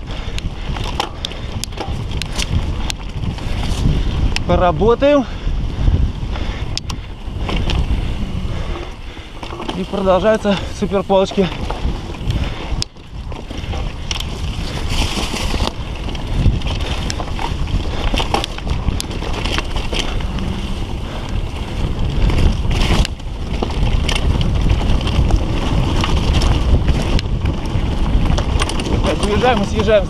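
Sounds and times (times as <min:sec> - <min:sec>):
bike knocks and rattles: 0:00.0 - 0:04.5, 0:06.6 - 0:30.0
bike tyre noise on dirt: 0:00.0 - 0:30.0
wind rush on microphone: 0:00.0 - 0:30.0.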